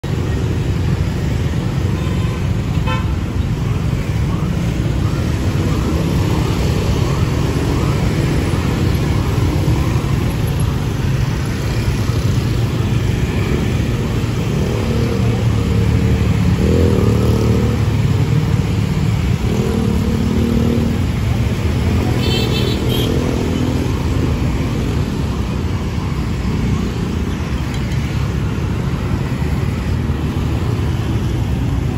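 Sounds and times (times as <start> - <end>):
street traffic rumble: 0.0 - 31.9.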